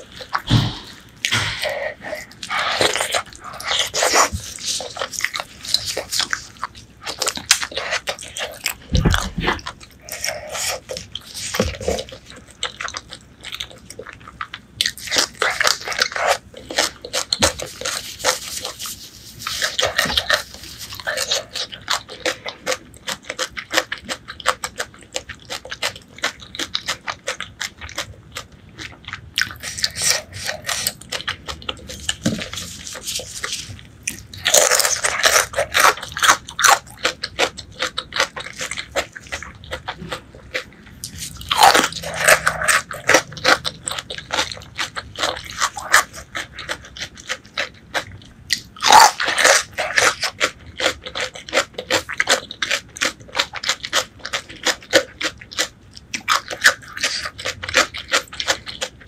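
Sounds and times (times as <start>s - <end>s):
close chewing and biting: 0.0s - 59.0s.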